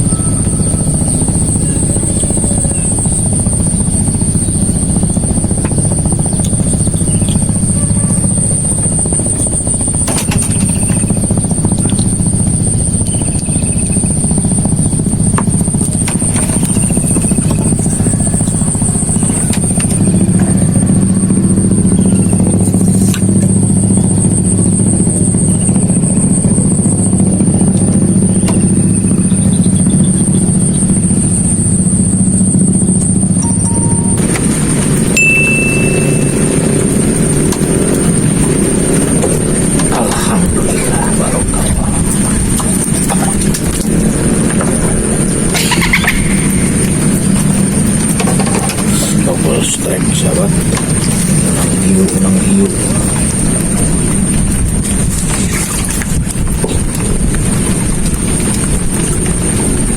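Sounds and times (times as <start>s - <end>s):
small engine running steadily: 0.0s - 59.9s
steady high whine: 0.0s - 59.9s.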